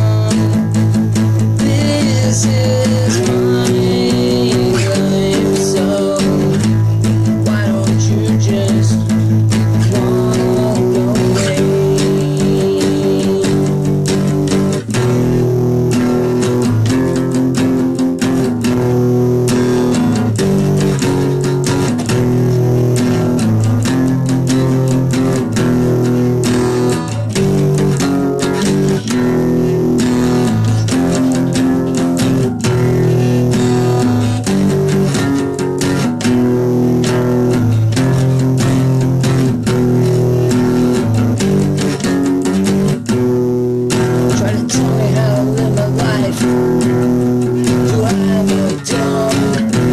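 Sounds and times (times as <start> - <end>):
bass line: 0.0 - 49.9
plucked guitar: 0.0 - 49.9.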